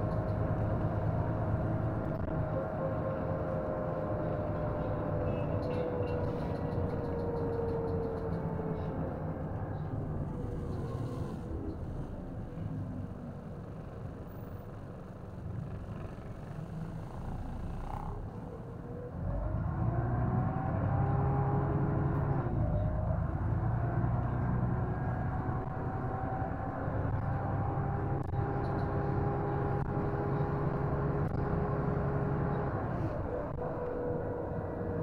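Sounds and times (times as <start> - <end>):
bus diesel engine pulling away: 0.0 - 35.0.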